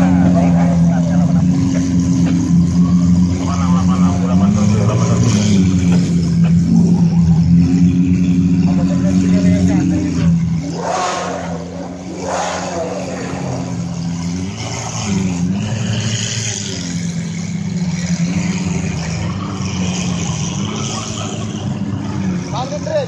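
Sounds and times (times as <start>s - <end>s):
engine revving: 0.0s - 23.0s
sports car engines running: 0.0s - 23.0s.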